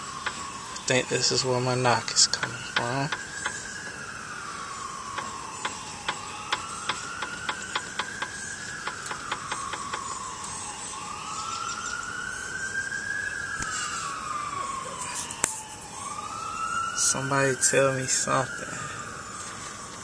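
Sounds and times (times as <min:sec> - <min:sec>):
distant siren wailing: 0:00.0 - 0:20.0.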